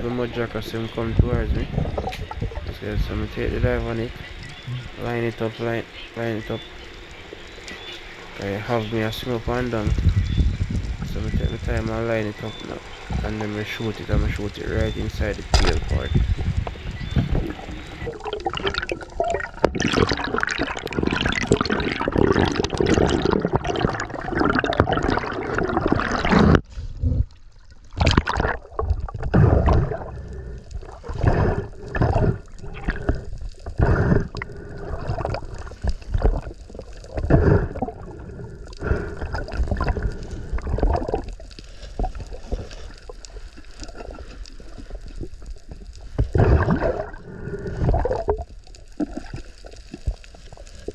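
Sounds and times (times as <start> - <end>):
water gurgling and sloshing: 0.0 - 50.9.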